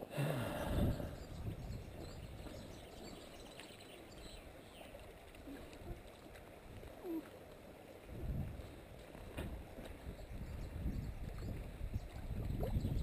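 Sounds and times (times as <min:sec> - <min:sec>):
river water running over stones: 0:00.0 - 0:13.0.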